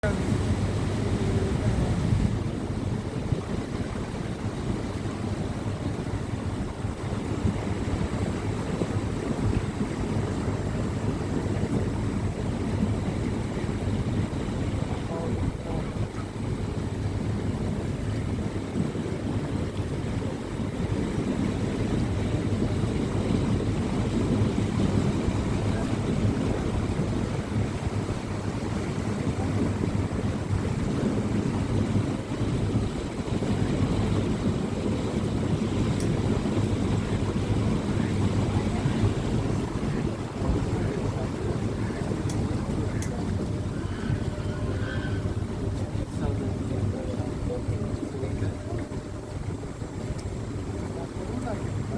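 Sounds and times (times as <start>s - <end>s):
boat engine running: 0.0s - 51.9s
wind rumbling on microphone: 0.0s - 51.9s.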